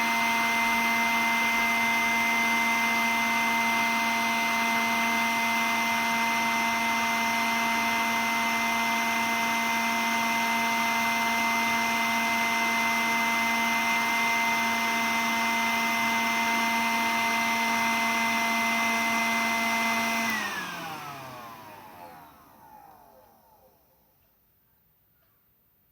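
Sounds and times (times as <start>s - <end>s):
cordless vacuum cleaner running: 0.0s - 24.3s.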